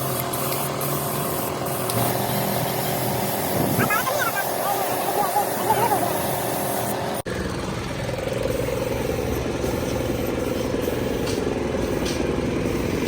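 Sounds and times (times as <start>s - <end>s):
vehicle engine idling: 0.1s - 13.0s.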